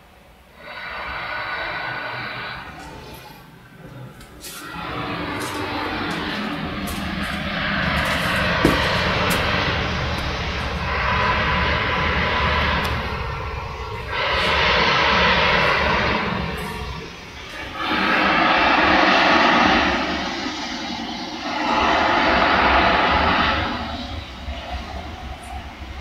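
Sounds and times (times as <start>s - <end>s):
motorway traffic rushing: 2.7s - 26.0s.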